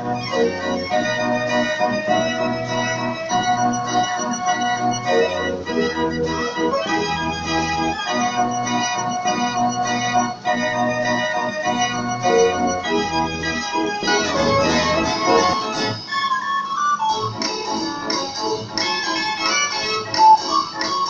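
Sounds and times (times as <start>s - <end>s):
fair organ playing a tune: 0.0s - 21.0s.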